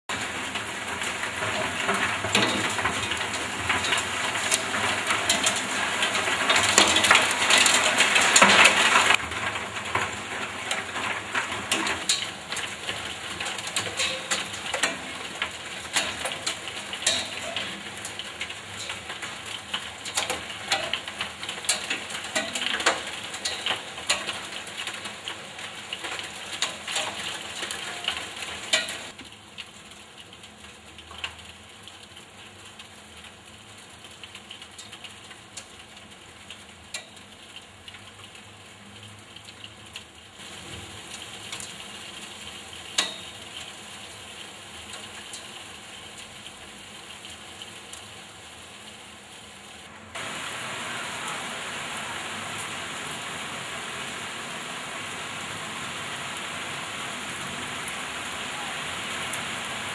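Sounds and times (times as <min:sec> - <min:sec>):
heavy rain and hail: 0:00.1 - 0:59.9.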